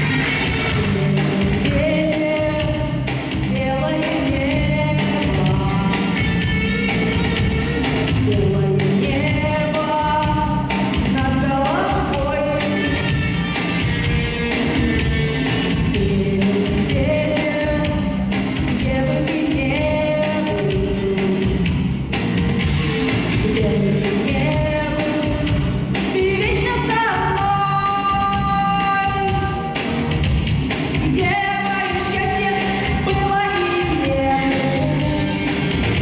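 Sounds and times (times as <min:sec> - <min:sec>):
woman singing: 0:00.0 - 0:07.3, 0:08.1 - 0:13.5, 0:15.7 - 0:21.8, 0:23.3 - 0:29.8, 0:30.9 - 0:36.0
band with steady drum beat: 0:00.0 - 0:36.0.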